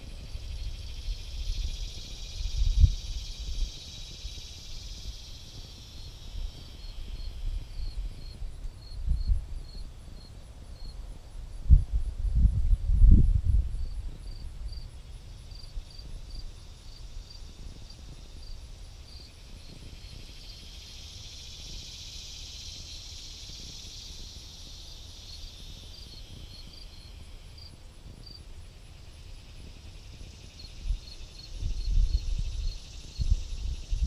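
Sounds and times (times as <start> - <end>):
high insect buzz: 0.0 - 34.0
insects chirping: 0.0 - 34.0
wind rumble on microphone: 0.0 - 34.0.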